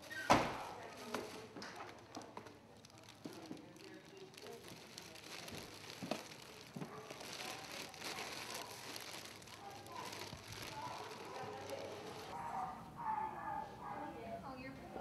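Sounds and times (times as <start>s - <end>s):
rustling and crinkling: 0.0s - 12.4s
low murmuring: 2.6s - 15.0s.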